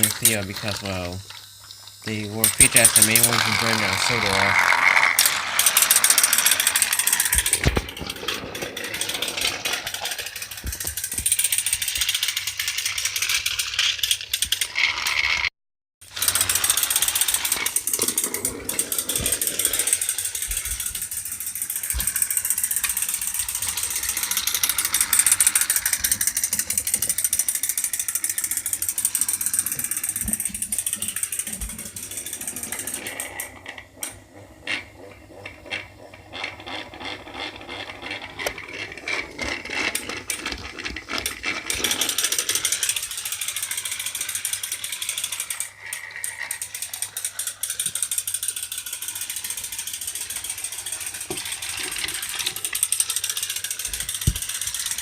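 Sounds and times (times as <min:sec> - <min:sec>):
toy train gear whirring: 0:00.0 - 0:55.0.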